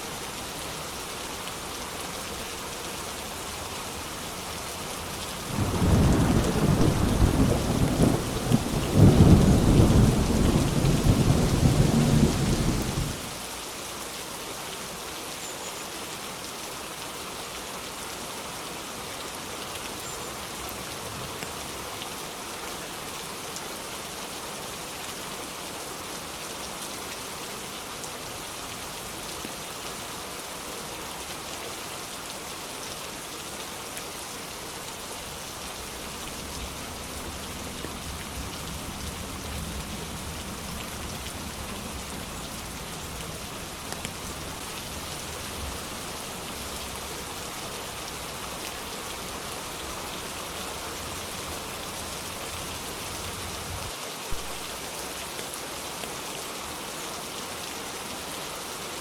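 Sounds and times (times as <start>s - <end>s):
dense rain falling: 0.0s - 59.0s.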